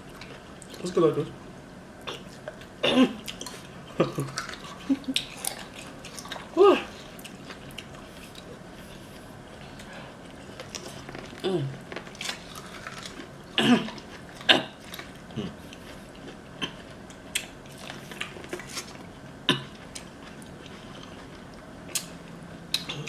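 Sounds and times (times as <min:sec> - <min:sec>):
chewing and mouth clicks: 0:02.0 - 0:23.0.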